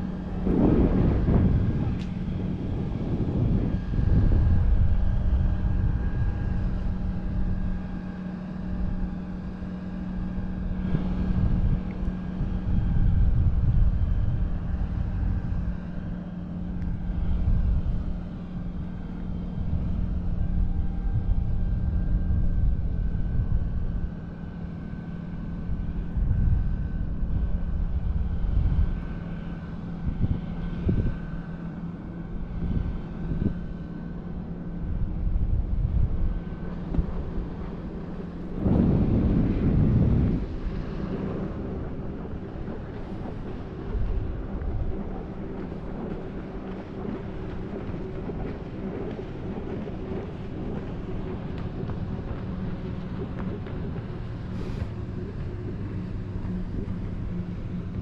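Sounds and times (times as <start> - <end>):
boat engine drone: 0.0 - 58.0
wind buffeting microphone: 0.0 - 58.0.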